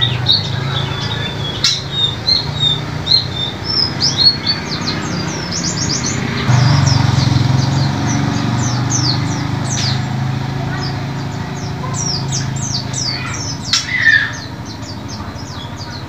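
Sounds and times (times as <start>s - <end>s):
bird chirping and twittering: 0.0s - 16.0s.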